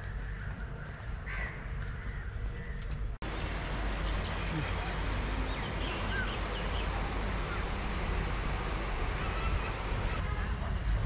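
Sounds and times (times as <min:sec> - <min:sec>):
rushing outdoor noise: 0:00.0 - 0:11.0.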